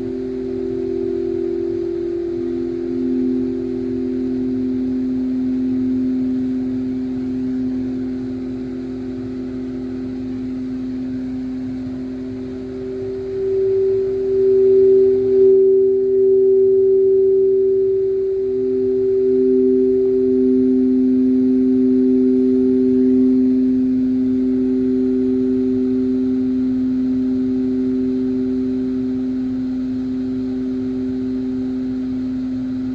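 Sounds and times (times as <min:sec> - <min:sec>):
singing bowls ringing: 0:00.0 - 0:32.9.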